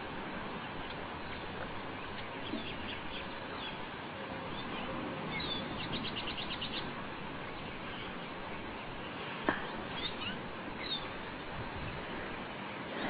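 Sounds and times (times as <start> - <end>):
steady background hiss: 0.0 - 13.0
bird chirps and trills: 0.6 - 12.2.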